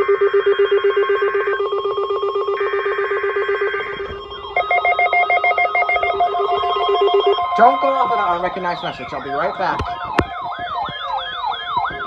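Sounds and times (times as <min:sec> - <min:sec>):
higher-pitched beeping alarm: 0:00.0 - 0:12.0
rapid electronic alarm beeping: 0:00.0 - 0:12.0.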